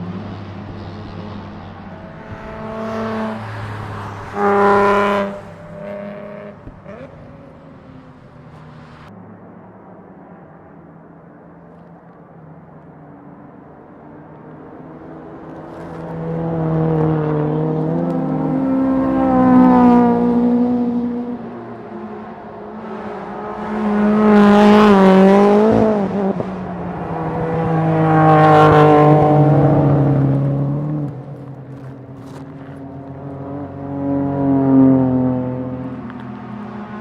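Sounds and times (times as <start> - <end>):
race car engines passing: 0.0 - 11.3, 13.0 - 37.0.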